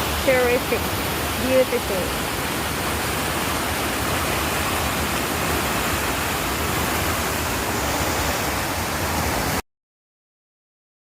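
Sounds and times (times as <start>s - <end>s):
loud rushing outdoor noise: 0.0s - 9.6s.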